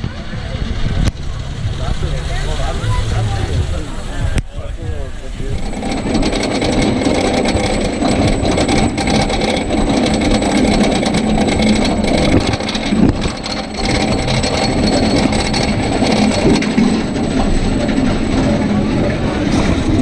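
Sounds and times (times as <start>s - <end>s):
roller coaster lift rattle and clicking: 0.0s - 20.0s.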